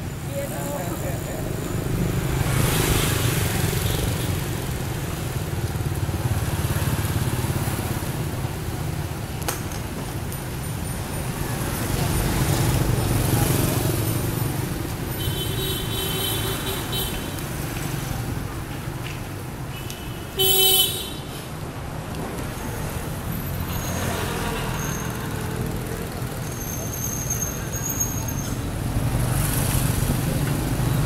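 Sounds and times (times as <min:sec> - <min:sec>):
motorbikes passing: 0:00.0 - 0:20.4, 0:21.4 - 0:31.0
street traffic rumble: 0:00.0 - 0:31.0.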